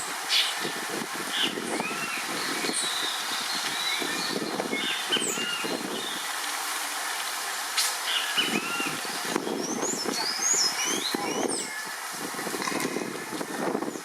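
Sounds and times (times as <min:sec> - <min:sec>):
wild birds chirping: 0:00.0 - 0:12.0.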